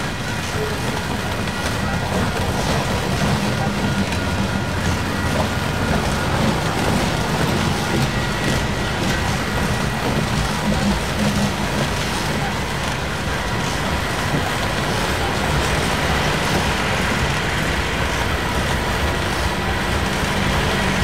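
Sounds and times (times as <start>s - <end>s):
steel wheels rumbling on rail: 0.0s - 21.0s.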